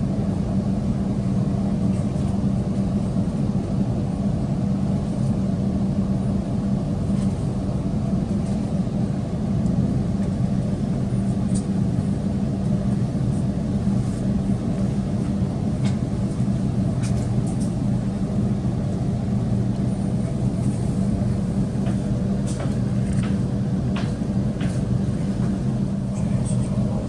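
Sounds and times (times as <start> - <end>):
train low hum and rumble: 0.0 - 27.0.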